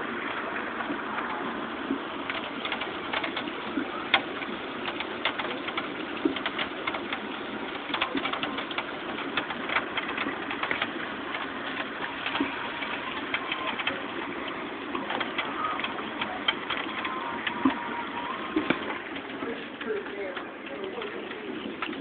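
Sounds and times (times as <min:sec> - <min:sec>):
raindrops tapping and dripping: 0:00.0 - 0:22.0
steady rain falling: 0:00.0 - 0:22.0.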